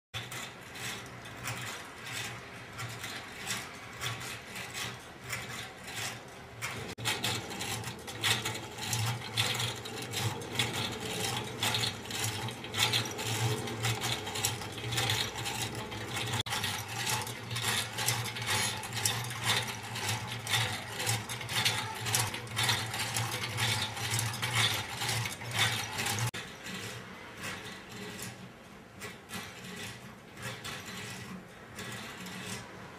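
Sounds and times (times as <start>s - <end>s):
automaton parts clicking and clattering: 0.2s - 32.9s.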